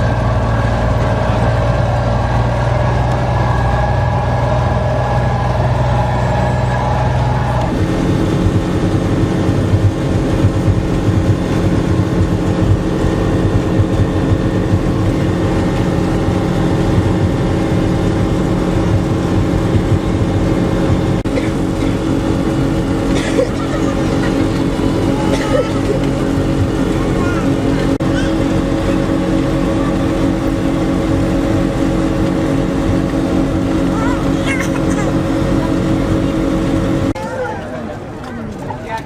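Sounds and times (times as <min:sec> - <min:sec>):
hull rushing through water: 0:00.0 - 0:38.9
outboard engine running: 0:00.0 - 0:39.0.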